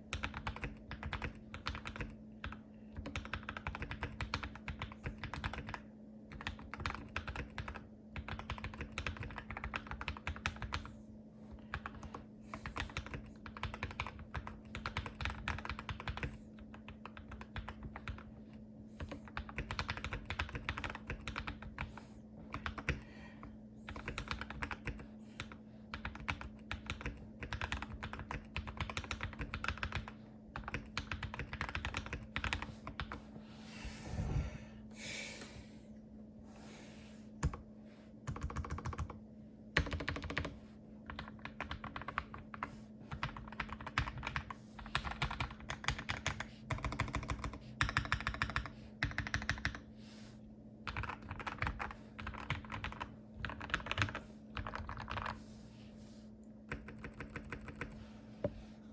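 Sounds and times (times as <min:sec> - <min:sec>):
fast typing on mechanical keyboard: 0:00.0 - 0:10.9, 0:11.7 - 0:18.4, 0:19.0 - 0:23.0, 0:23.9 - 0:33.2, 0:38.2 - 0:39.2, 0:39.8 - 0:49.9, 0:50.8 - 0:55.4, 0:56.6 - 0:58.0
steady low hum: 0:00.0 - 0:58.9.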